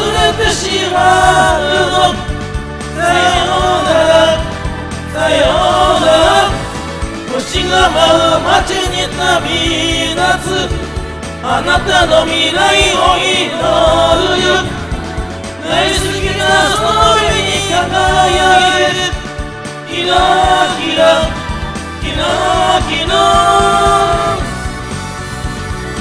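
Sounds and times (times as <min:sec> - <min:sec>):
voices singing together: 0:00.0 - 0:25.2
backing music: 0:00.0 - 0:26.0.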